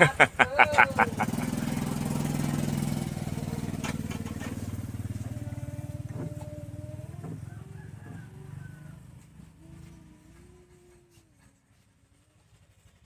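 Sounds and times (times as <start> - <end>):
vehicle engine passing: 0.0 - 11.4.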